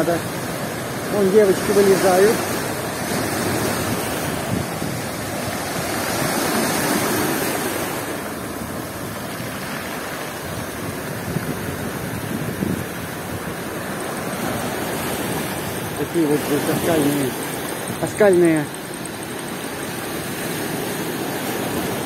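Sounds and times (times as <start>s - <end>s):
waves breaking: 0.0s - 22.0s.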